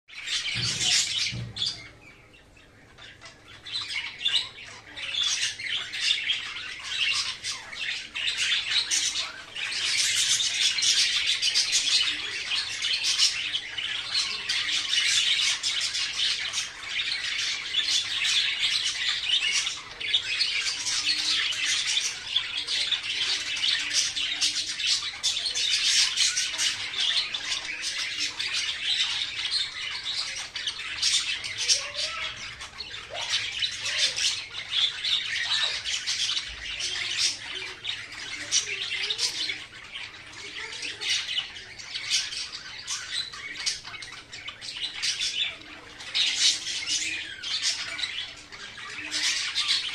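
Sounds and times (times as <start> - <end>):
parakeet squawking: 2.9 - 49.9.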